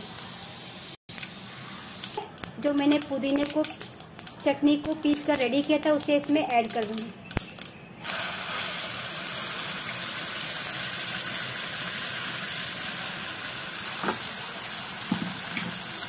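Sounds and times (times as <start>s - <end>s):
food sizzling in hot oil: 0.2s - 16.0s.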